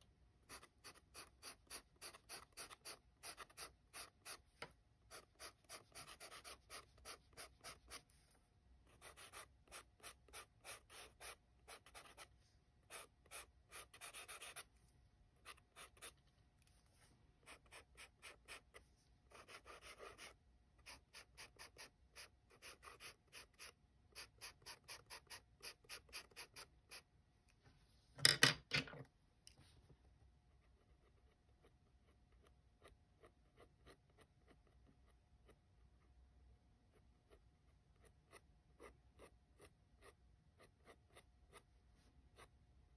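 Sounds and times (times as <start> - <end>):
pencil shading on paper: 0.5 - 14.8, 15.4 - 27.1, 30.6 - 35.6, 36.9 - 41.7.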